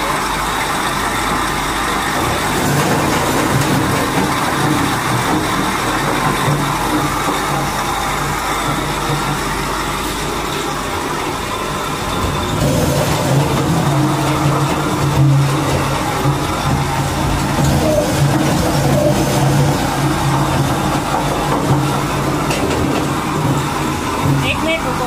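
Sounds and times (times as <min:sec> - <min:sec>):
crusher machine droning: 0:00.0 - 0:25.0.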